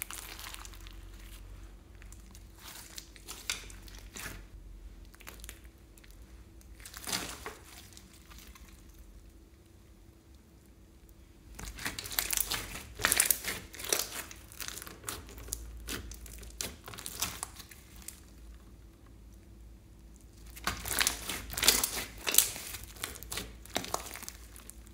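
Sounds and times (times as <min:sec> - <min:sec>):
slime crackling and popping: 0:00.0 - 0:09.1, 0:11.5 - 0:18.7, 0:20.1 - 0:24.9.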